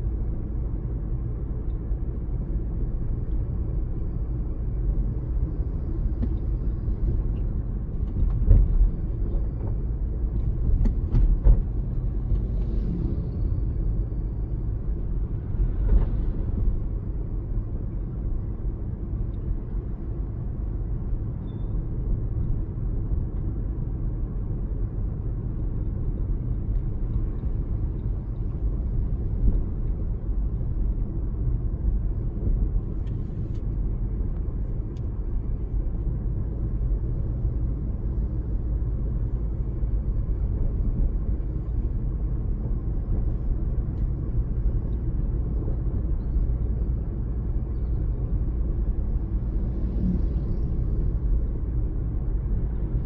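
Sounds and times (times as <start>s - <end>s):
car driving on road: 0.0s - 53.0s.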